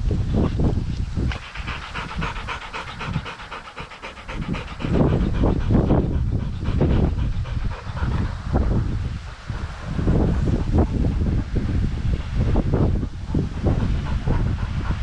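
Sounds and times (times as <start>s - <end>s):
wind buffeting microphone: 0.0s - 15.0s
dog panting: 0.2s - 15.0s.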